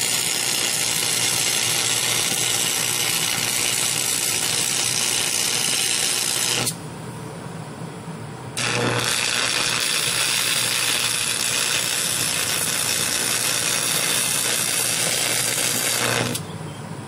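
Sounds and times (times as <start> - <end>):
welding arc crackling and hissing: 0.0 - 6.8, 8.6 - 16.4.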